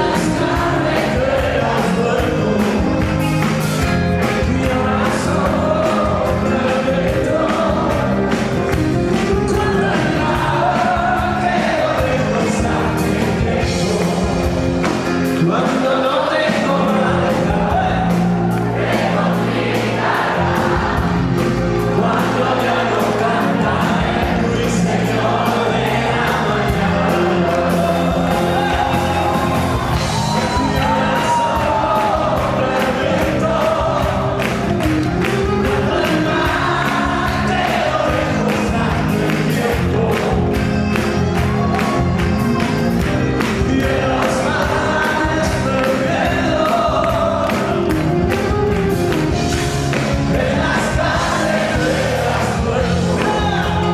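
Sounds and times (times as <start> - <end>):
lead singer singing: 0.0 - 48.5, 49.9 - 53.9
concert crowd: 0.0 - 53.9
live rock band playing: 0.0 - 53.9.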